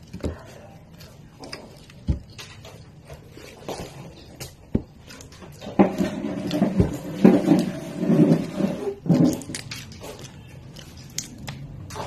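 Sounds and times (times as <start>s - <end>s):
chewing: 0.0s - 7.7s, 9.2s - 12.0s.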